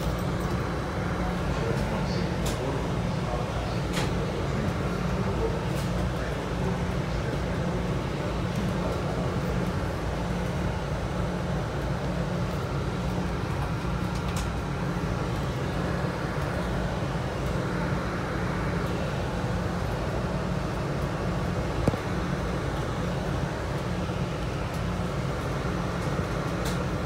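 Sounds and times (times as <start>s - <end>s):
train car rumble and hum: 0.0s - 27.0s.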